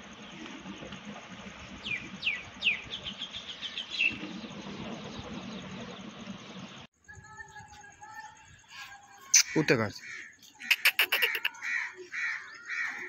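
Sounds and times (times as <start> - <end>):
outdoor background hiss: 0.0 - 12.6
small birds chirping: 1.8 - 13.0.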